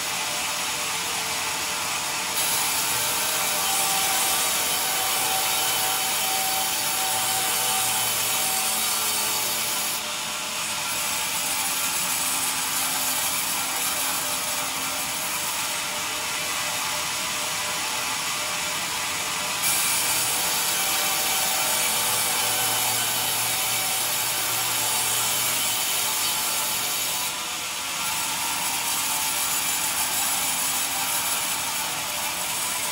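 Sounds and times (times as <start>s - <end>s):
band saw cutting timber: 0.0s - 32.9s.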